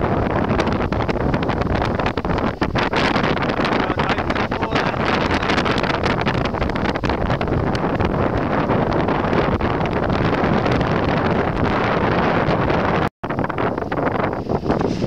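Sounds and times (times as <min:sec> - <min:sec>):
wind blasting the microphone: 0:00.0 - 0:15.0.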